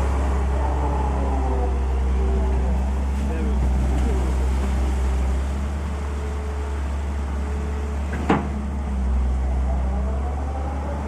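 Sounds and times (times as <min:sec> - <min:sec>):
large engine humming: 0:00.0 - 0:11.0.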